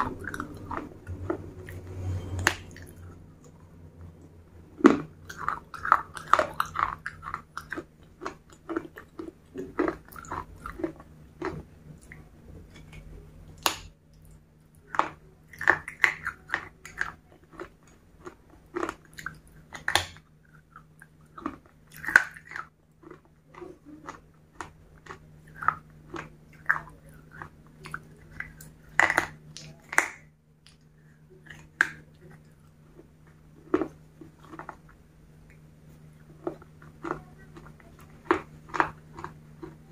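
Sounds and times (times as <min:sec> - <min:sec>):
low steady hum: 0:00.0 - 0:39.9
chewing food mouth sounds: 0:02.4 - 0:39.9.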